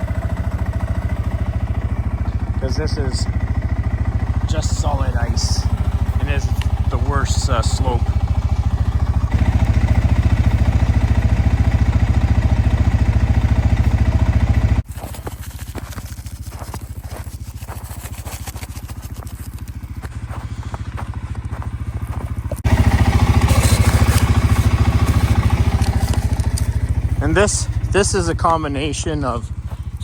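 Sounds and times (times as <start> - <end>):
vehicle engine pulsing: 0.0 - 30.0.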